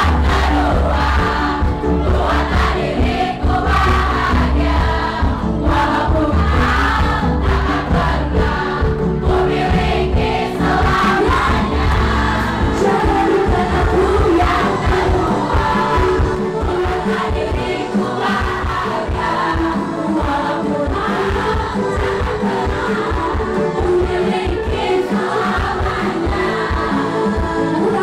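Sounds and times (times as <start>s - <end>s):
steady beat: 0.0s - 27.5s
audience singing along: 0.0s - 28.0s
woman singing into microphone: 0.0s - 28.0s.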